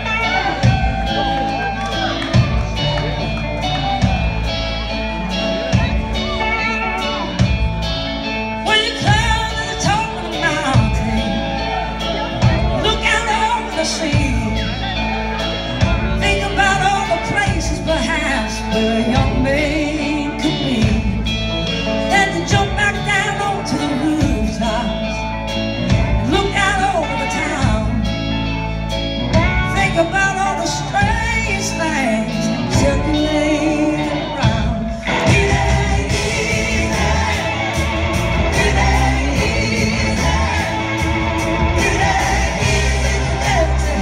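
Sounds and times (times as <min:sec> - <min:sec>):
person singing: 0:00.0 - 0:28.5, 0:29.3 - 0:44.0
bass: 0:00.0 - 0:44.0
drums: 0:00.0 - 0:44.0
electric guitars: 0:00.0 - 0:44.0
keyboards: 0:00.0 - 0:44.0.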